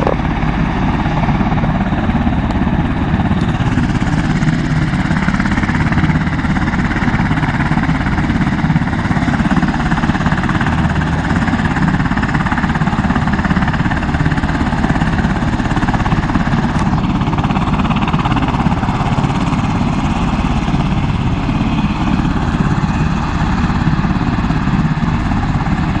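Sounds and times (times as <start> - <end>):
turbine aircraft engine running: 0.0 - 26.0.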